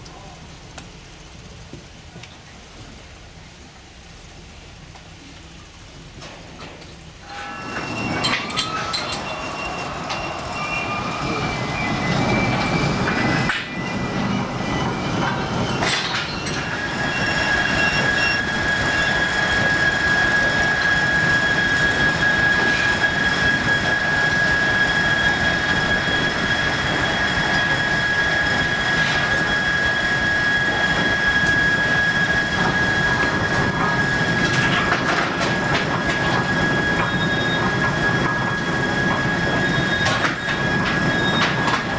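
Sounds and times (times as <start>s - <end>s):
sawmill machinery running: 6.6s - 41.9s
high steady whine: 7.2s - 41.9s.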